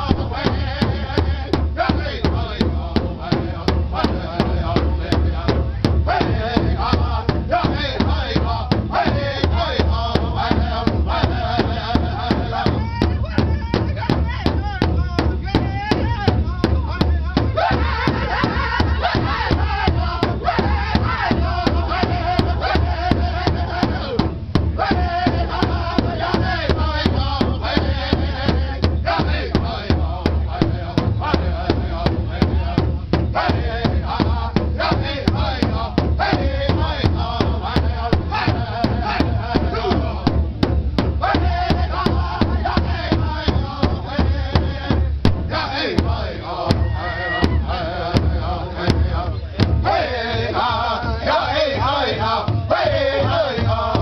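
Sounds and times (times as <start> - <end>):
group singing in unison: 0.0 - 13.2, 16.0 - 54.0
large drum steady beat: 0.0 - 54.0.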